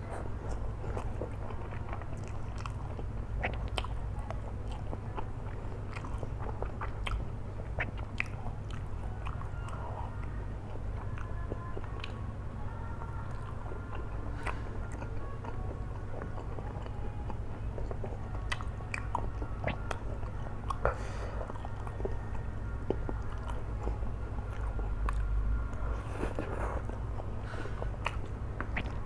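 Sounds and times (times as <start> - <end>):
chewing noodles: 0.0 - 29.0.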